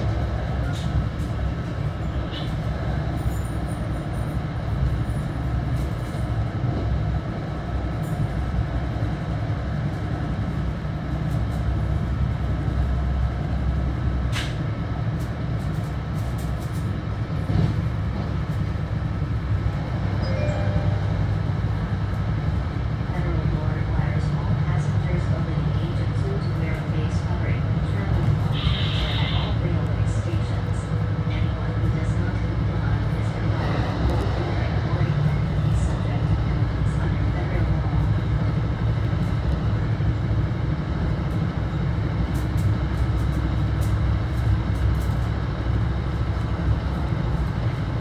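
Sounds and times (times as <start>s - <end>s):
train coach rumbling: 0.0s - 48.0s.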